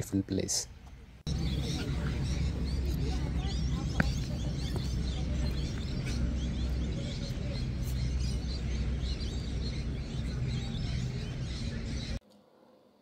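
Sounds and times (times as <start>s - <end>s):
low outdoor rumble: 0.0s - 12.2s
small birds chirping: 0.8s - 12.2s.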